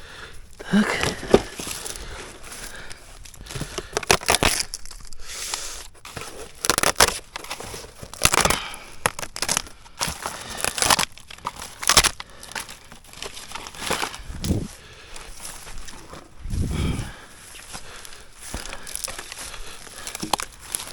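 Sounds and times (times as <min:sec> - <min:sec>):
rustling and crunching by hand: 0:00.0 - 0:20.9.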